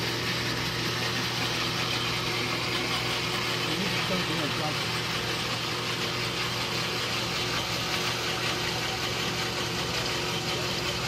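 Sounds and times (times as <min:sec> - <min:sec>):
band saw motor hum: 0:00.0 - 0:11.0.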